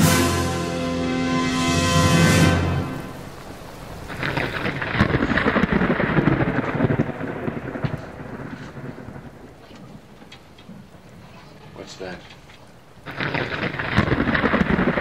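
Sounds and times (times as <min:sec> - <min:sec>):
thunder rolling: 0:00.0 - 0:11.1, 0:13.0 - 0:15.0
rain: 0:00.0 - 0:15.0.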